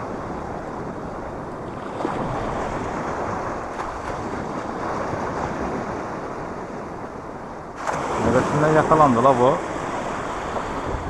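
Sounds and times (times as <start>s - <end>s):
sea waves washing: 0.0s - 11.0s
wind on microphone: 0.0s - 11.0s.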